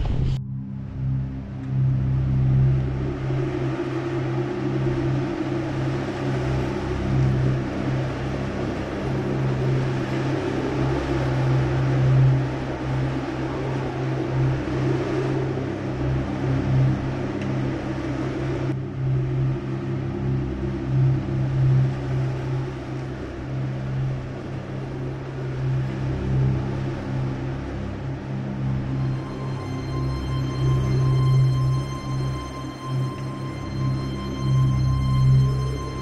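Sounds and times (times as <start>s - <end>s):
strong wind howling: 0.0s - 36.0s.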